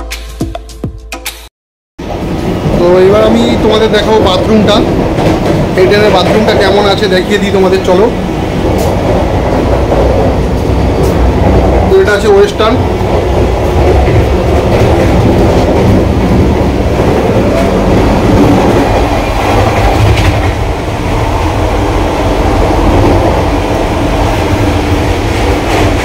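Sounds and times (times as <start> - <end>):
train wheels rumbling on track: 2.0 - 26.0.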